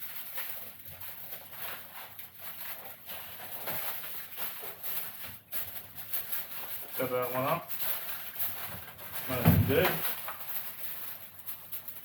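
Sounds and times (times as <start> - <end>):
knocks and rustles of handling meat: 0.0 - 12.0.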